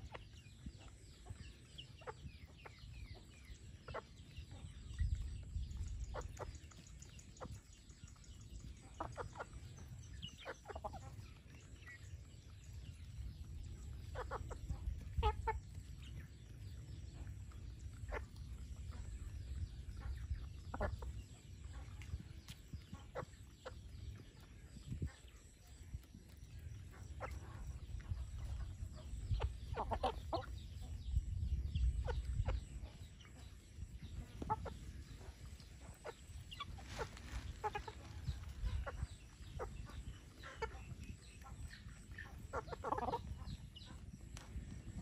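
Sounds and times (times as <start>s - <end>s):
chickens clucking: 0.0s - 45.0s
steady low rumble: 0.0s - 45.0s.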